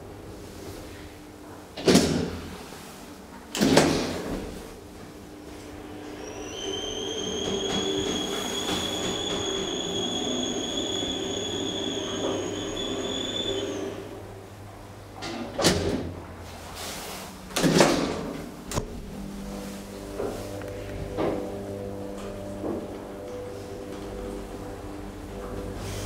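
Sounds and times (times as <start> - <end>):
elevator whine and hum: 0.0 - 26.0.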